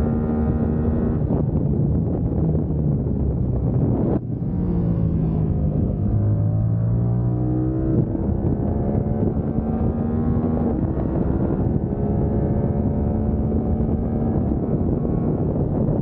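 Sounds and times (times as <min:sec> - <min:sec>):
motorcycle engine accelerating: 0:00.0 - 0:16.0
wind rushing over microphone: 0:00.0 - 0:16.0.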